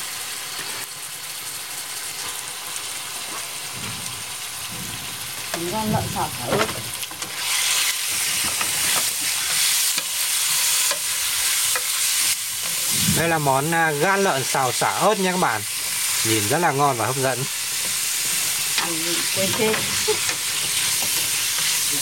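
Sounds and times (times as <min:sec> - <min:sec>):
liver sizzling in a pan: 0:00.0 - 0:22.0
pan being stirred: 0:04.2 - 0:22.0.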